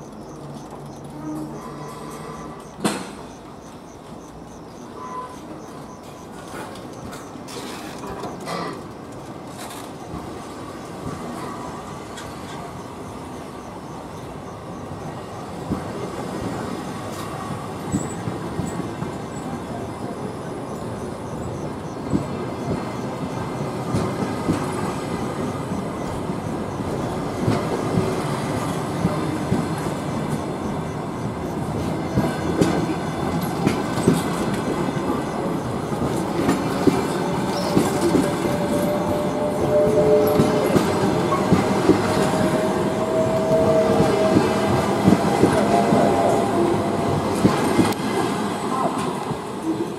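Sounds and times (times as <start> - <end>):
train wheels clicking over rail joints: 0.0 - 19.9, 20.7 - 49.5.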